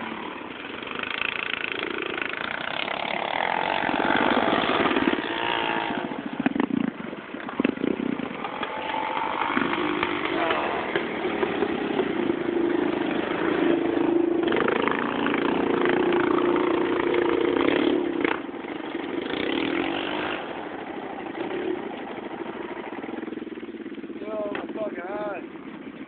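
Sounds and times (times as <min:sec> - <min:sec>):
quad engine revving: 0:00.0 - 0:23.4.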